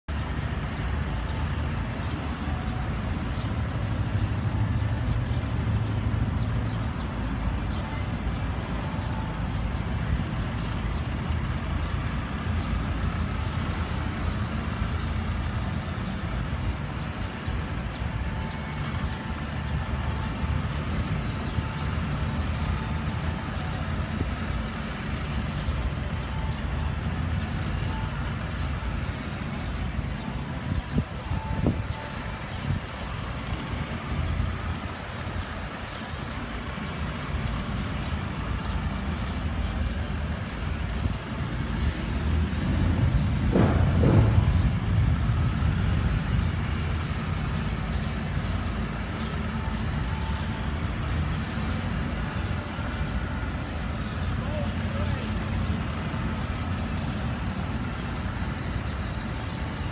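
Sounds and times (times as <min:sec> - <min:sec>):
motorcycle engines rumbling: 0:00.1 - 0:59.9.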